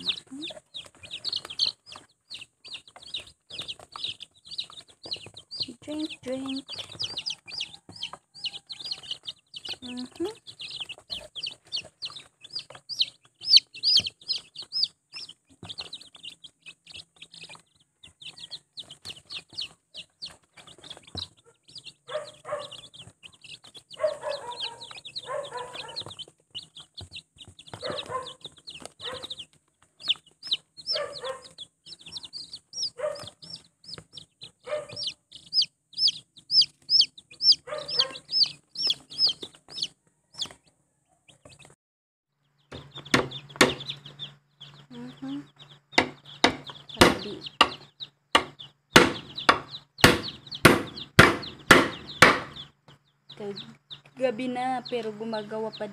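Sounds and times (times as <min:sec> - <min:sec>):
chicks peeping: 0:00.0 - 0:41.8, 0:42.4 - 0:55.9.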